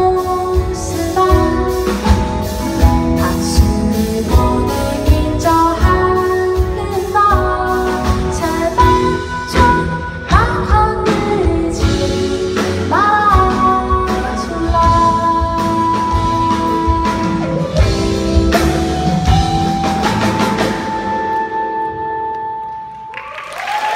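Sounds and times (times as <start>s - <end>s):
person singing: 0.0s - 19.7s
drum kit: 0.0s - 22.0s
guitar: 0.0s - 23.2s.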